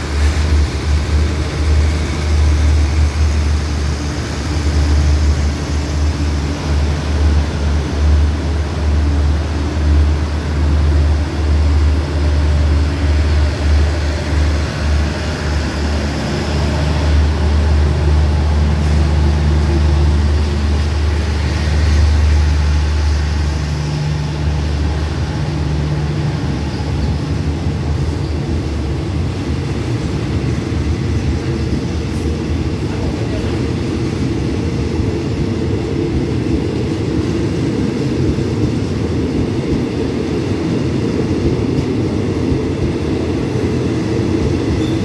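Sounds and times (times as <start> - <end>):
train coaches rumbling past: 0.0 - 45.0.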